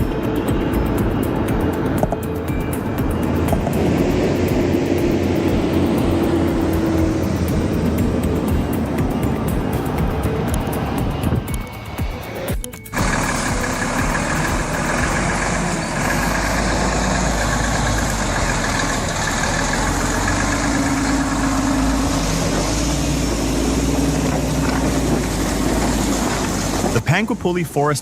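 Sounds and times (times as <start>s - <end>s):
heavy truck engine under load: 0.0s - 28.0s.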